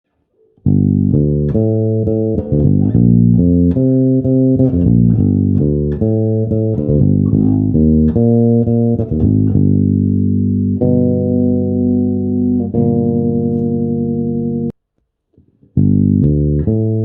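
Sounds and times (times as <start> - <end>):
electric bass guitar plucked notes: 0.6 - 14.7, 15.7 - 17.0.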